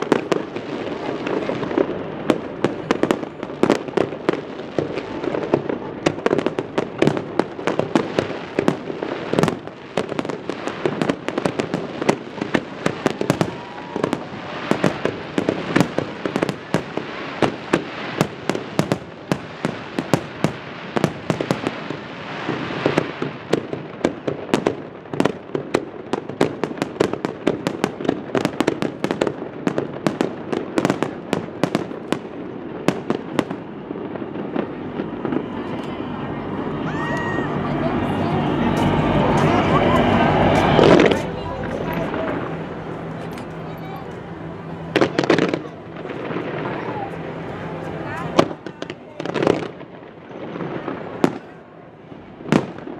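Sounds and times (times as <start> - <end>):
fireworks bangs and crackling: 0.0 - 52.9
fireworks rumble: 0.0 - 52.9.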